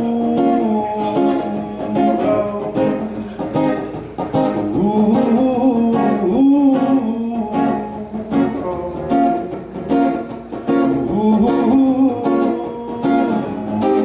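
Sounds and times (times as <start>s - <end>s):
person singing wordlessly: 0.0s - 3.4s, 4.6s - 10.1s, 10.9s - 14.0s
strummed acoustic guitar: 0.0s - 14.0s.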